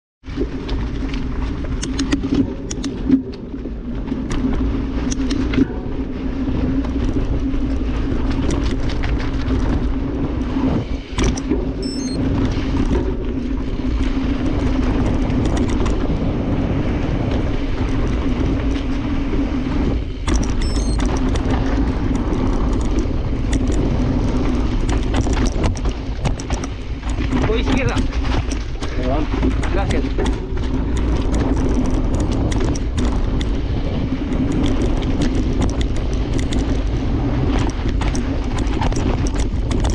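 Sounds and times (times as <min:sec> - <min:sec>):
bike tyres rumbling on dirt: 0:00.2 - 0:39.9
bike clicks and rattles: 0:00.3 - 0:39.9.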